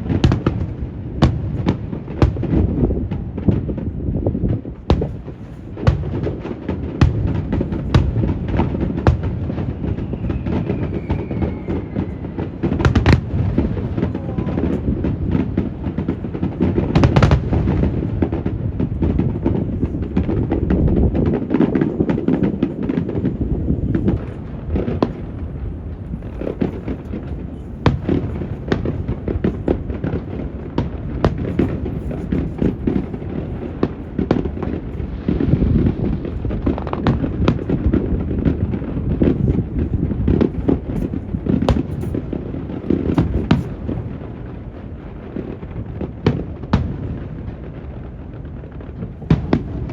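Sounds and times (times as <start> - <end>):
fireworks bursting and crackling: 0.0 - 49.9
wind rumbling on microphone: 0.0 - 49.9.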